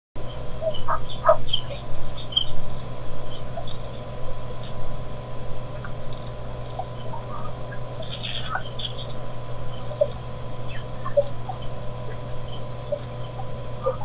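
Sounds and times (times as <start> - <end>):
birds chirping: 0.2 - 14.0
louder lower bird calls: 0.2 - 14.0
low hum: 0.2 - 14.0.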